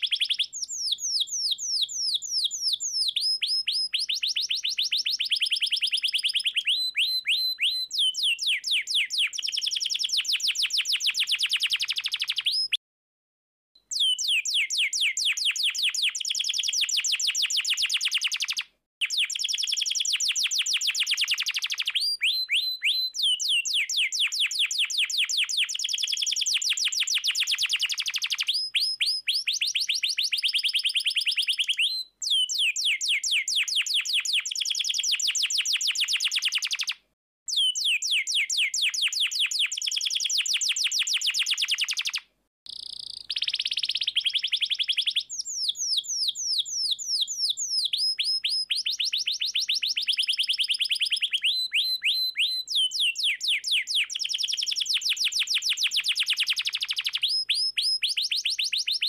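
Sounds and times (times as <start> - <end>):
canary singing trills: 0.0 - 12.8, 13.9 - 59.0.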